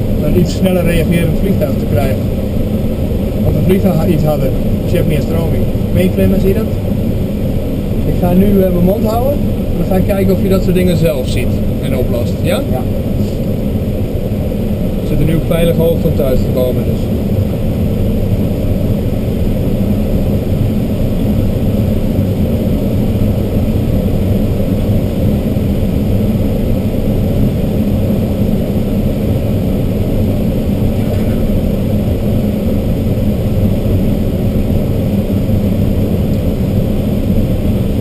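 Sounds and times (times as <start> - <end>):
airflow rushing in cockpit: 0.0 - 38.0
low drone of plane engine: 0.0 - 38.0.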